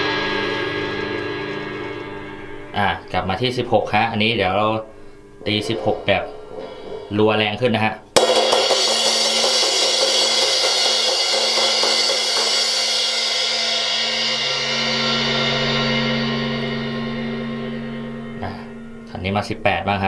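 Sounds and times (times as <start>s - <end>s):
cymbal roll: 0.0s - 19.9s.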